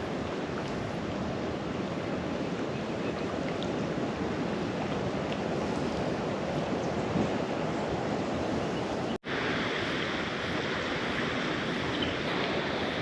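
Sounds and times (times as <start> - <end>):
waves rushing: 0.0 - 13.0
wind buffeting microphone: 0.0 - 13.0.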